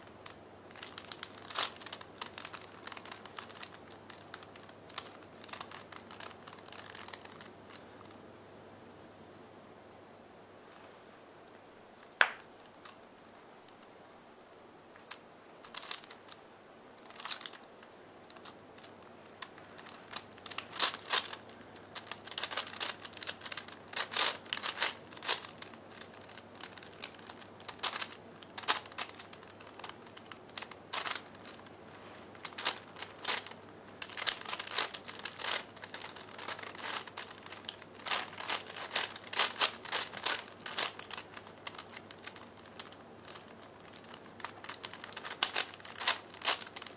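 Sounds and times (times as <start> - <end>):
puzzle cube plastic clicking: 0.2 - 8.2, 15.0 - 16.4, 17.0 - 31.7, 32.3 - 46.9.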